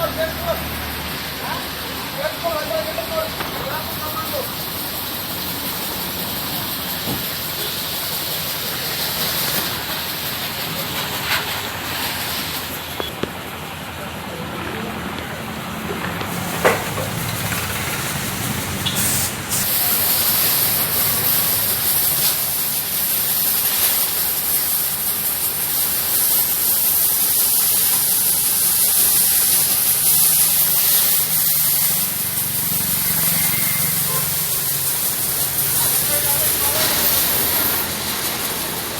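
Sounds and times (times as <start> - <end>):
pressure washer spraying: 0.0 - 13.8, 15.4 - 38.9.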